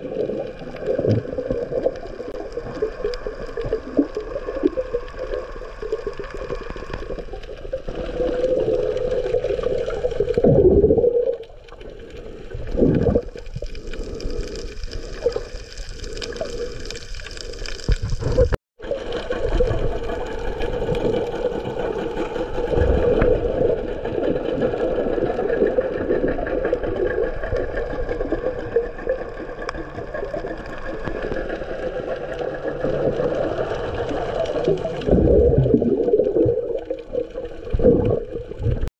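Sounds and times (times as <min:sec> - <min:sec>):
muffled underwater water wash: 0:00.0 - 0:38.9.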